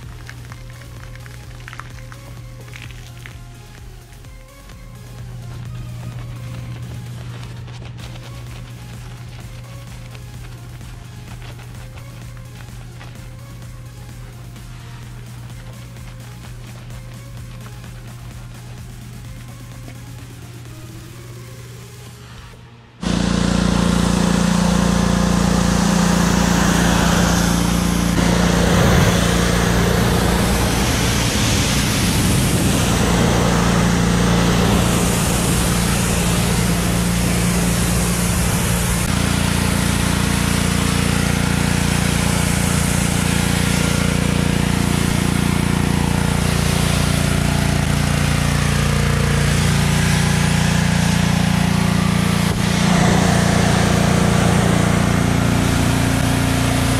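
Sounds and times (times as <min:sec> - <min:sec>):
water spray hissing: 0:00.0 - 0:22.4, 0:23.0 - 0:56.9
pressure washer motor humming: 0:00.0 - 0:56.9.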